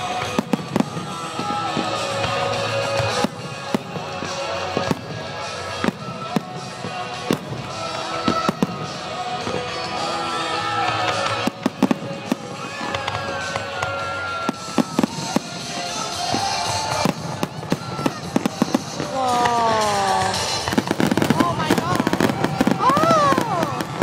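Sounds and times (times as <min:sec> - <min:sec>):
fireworks exploding: 0:00.0 - 0:24.0
music playing: 0:00.0 - 0:24.0.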